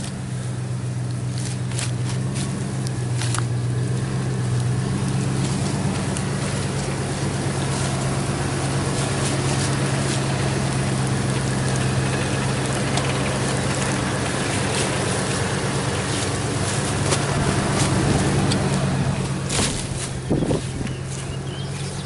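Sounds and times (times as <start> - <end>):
pickup engine running: 0.0 - 22.0.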